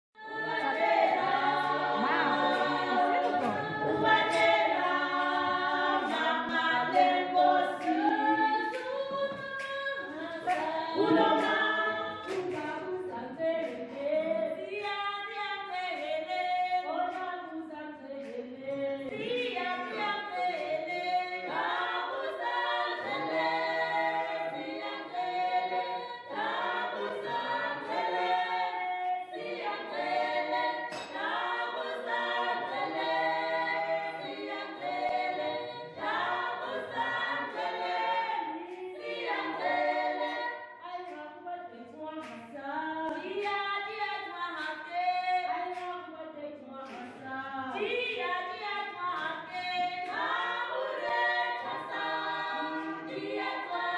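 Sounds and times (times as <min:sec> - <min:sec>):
choir singing a cappella: 0:00.2 - 0:53.9.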